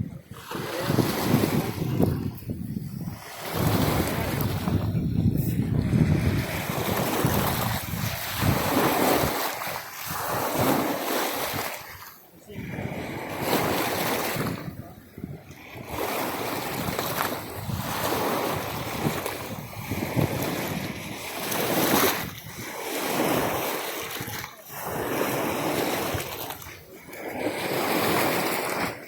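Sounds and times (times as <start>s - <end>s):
waves washing against shore: 0.0s - 29.0s
wind: 0.0s - 29.0s.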